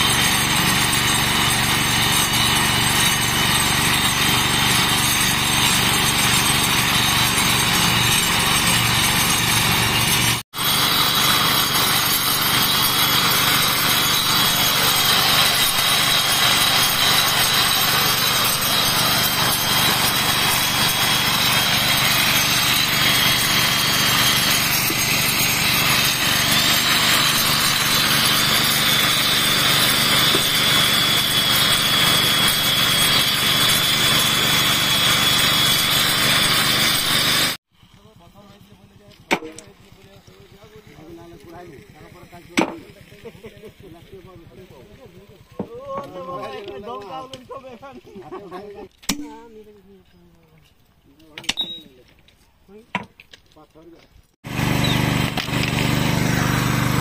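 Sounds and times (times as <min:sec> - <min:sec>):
rail grinder whining and grinding: 0:00.0 - 0:48.4, 0:54.4 - 0:57.0.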